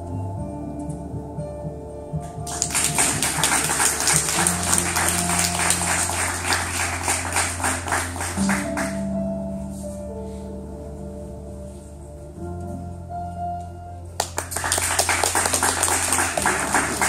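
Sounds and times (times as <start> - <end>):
held low notes: 0.0 - 17.0.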